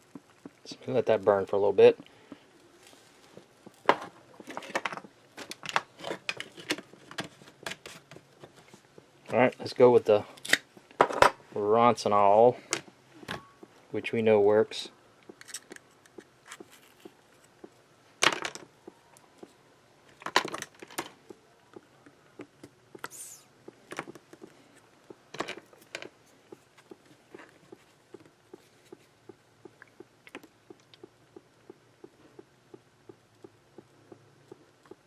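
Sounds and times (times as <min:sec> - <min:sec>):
faint steady ticking: 0:00.0 - 0:11.0, 0:11.7 - 0:35.0.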